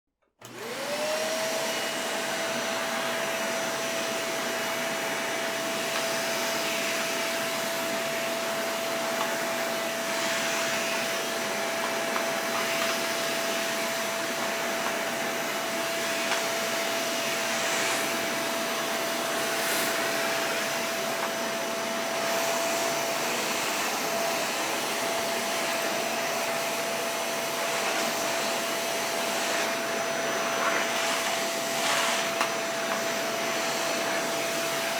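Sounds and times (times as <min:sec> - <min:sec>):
vacuum cleaner running: 0:00.4 - 0:34.9.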